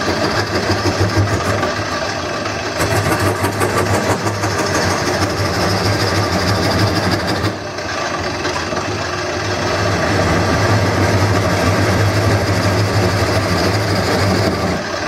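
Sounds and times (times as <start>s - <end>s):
turning tool scraping wood: 0.0s - 15.0s
wood lathe motor hum: 0.0s - 15.0s.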